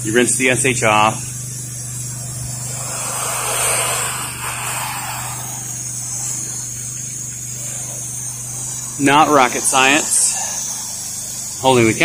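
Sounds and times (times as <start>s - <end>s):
pressure washer humming: 0.6s - 12.0s
water spray hissing on siding: 1.8s - 12.0s.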